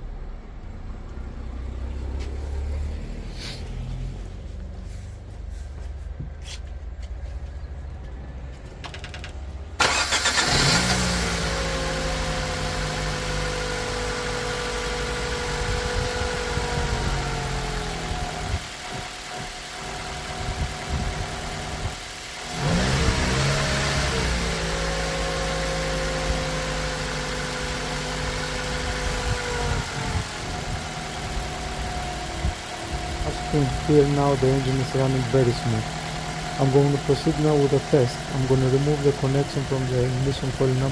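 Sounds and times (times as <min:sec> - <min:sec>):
car engine starting and revving: 0:00.0 - 0:05.6, 0:08.8 - 0:40.9.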